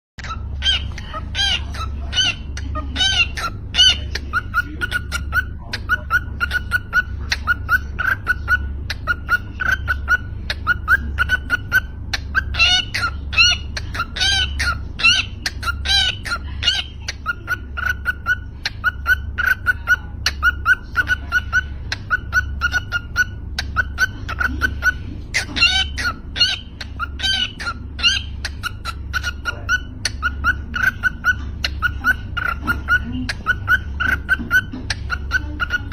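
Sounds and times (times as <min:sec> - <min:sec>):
cockatiels chirping: 0:00.2 - 0:35.9
squawks and whistles: 0:00.2 - 0:35.9.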